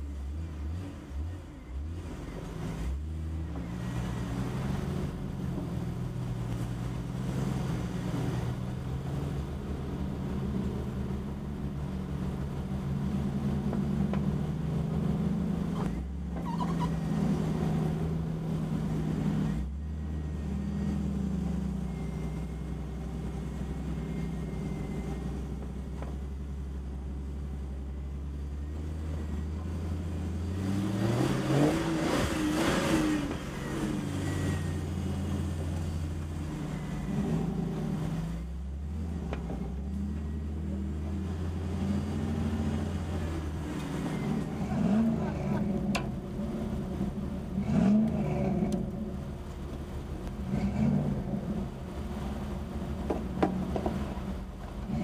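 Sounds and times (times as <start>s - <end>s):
car engine running at low speed: 0.0s - 55.0s.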